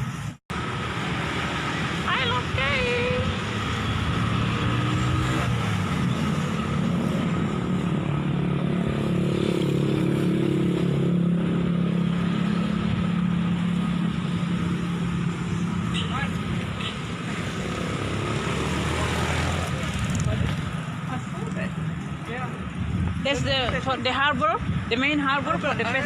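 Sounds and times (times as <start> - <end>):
road noise rumble: 0.0 - 26.0.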